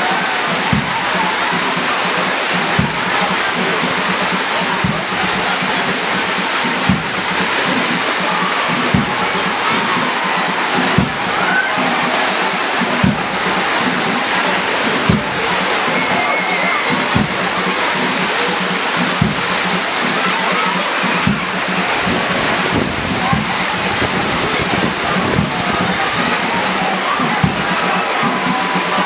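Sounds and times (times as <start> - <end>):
heavy rain pouring: 0.0 - 29.0
low drumbeat: 0.0 - 29.0.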